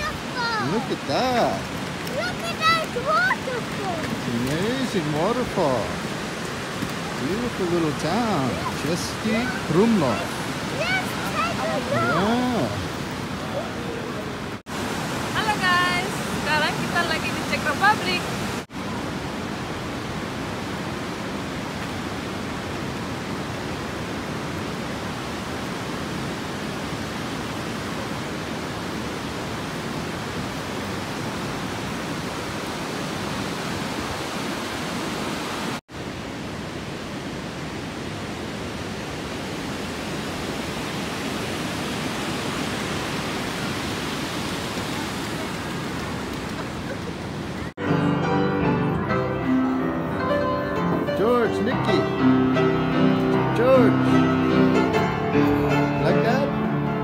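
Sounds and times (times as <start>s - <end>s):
river water pouring over a weir: 0.0s - 47.7s.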